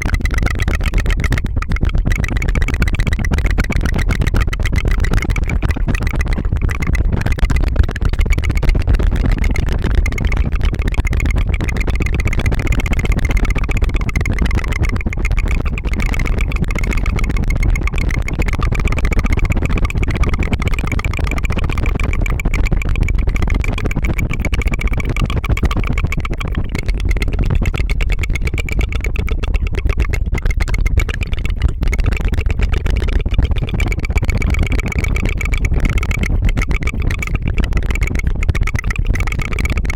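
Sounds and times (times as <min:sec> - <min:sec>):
tongue fluttering trill: 0:00.0 - 0:39.9.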